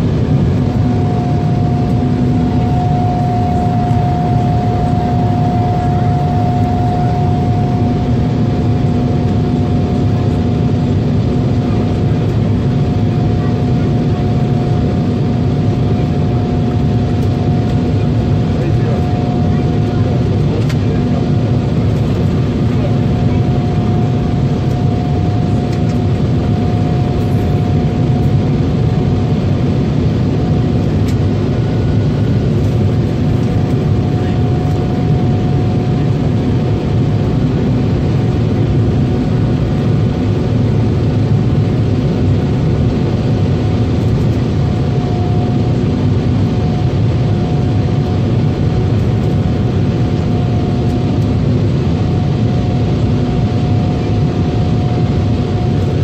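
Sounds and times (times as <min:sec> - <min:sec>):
constant hum: 0:00.0 - 0:56.0
jet engines roaring in cabin: 0:00.0 - 0:56.0.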